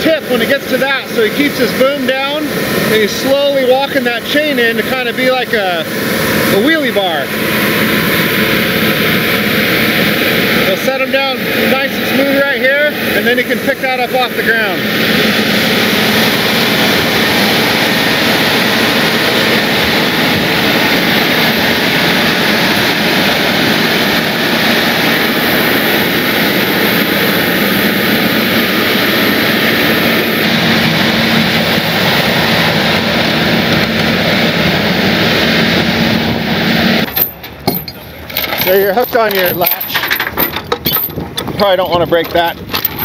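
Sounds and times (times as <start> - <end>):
large diesel engine droning: 0.0 - 43.0.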